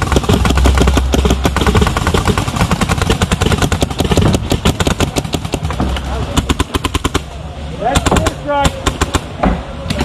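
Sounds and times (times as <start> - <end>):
paintball markers firing rapidly: 0.0 - 7.3, 7.9 - 9.3.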